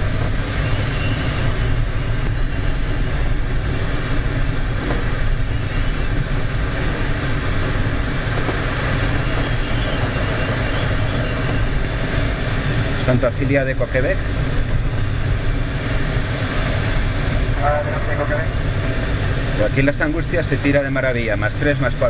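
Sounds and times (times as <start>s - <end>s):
air rushing in cockpit: 0.0s - 22.0s
low engine drone: 0.0s - 22.0s.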